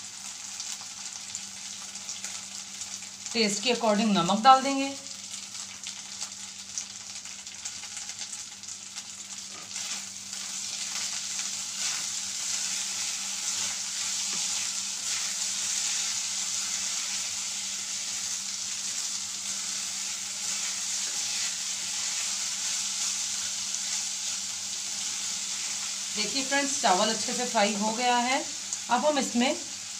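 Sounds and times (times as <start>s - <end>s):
rice sizzling in oil: 0.0s - 29.9s.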